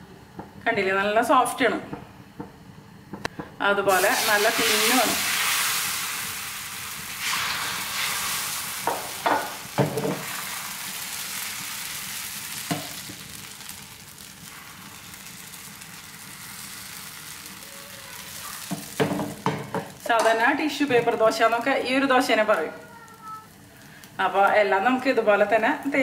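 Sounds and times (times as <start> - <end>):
batter sizzling on a hot griddle: 3.9 - 26.0.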